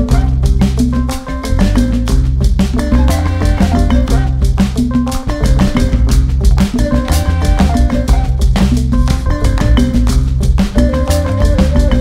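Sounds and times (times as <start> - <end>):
music with drums and percussion: 0.0 - 12.0.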